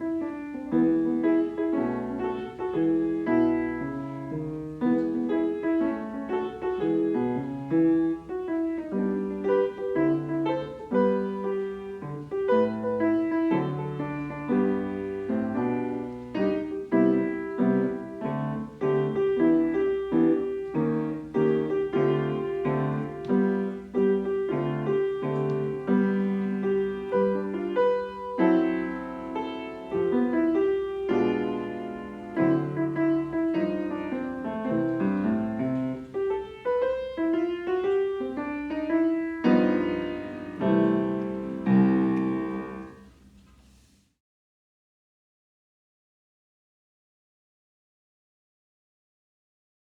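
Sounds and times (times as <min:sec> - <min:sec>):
solo piano melody: 0:00.0 - 0:44.0.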